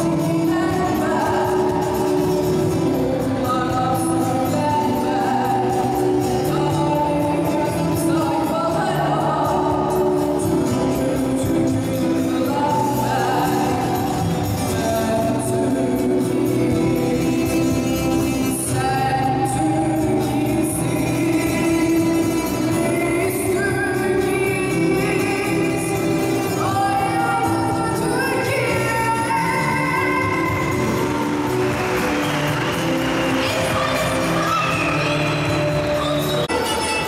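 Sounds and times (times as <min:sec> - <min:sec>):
woman singing into microphone: 0:00.0 - 0:31.6
backing music over loudspeakers: 0:00.0 - 0:37.0.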